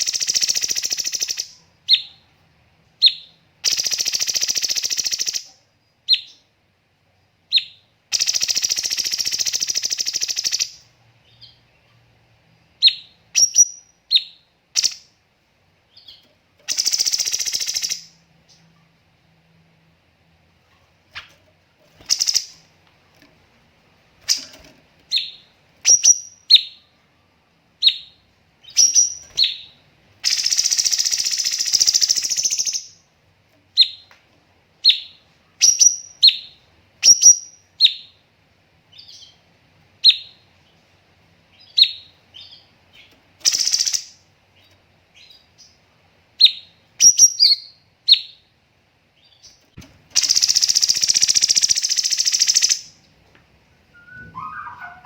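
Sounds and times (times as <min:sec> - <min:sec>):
songbird chirping: 0:00.0 - 0:06.6, 0:07.2 - 0:15.2, 0:15.8 - 0:19.2, 0:20.7 - 0:23.3, 0:24.2 - 0:33.1, 0:34.8 - 0:38.2, 0:38.9 - 0:55.0.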